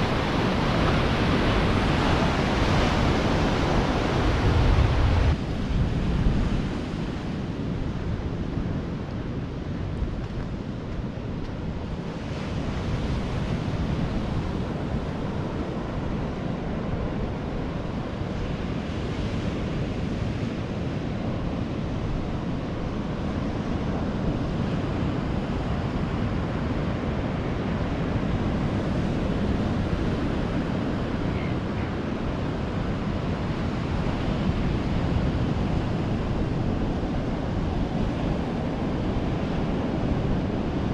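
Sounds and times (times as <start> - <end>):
waves breaking on shore: 0.0 - 40.9
wind buffeting microphone: 0.0 - 40.9.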